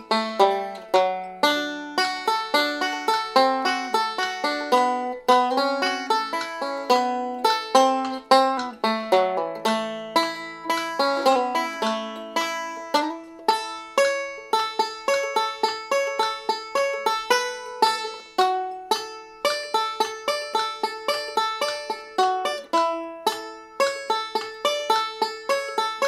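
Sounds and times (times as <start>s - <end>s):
banjo notes plucked: 0.0s - 26.0s.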